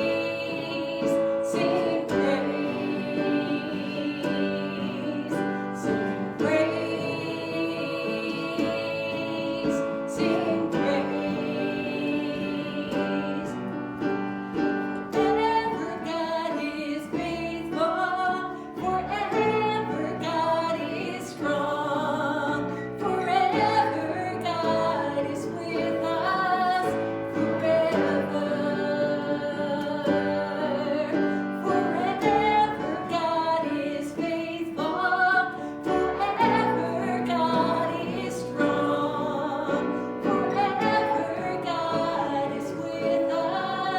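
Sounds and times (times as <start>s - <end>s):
keyboard or piano accompaniment: 0.0s - 43.9s
person singing: 0.0s - 43.9s.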